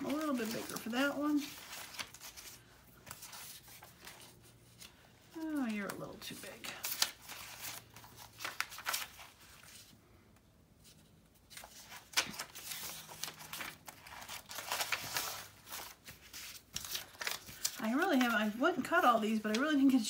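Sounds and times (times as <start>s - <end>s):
paper rustling and shuffling: 0.0s - 10.0s, 10.8s - 20.0s.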